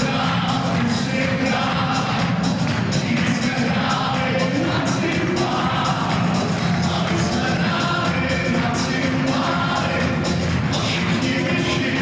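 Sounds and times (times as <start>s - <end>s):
song over sound system: 0.0s - 12.0s.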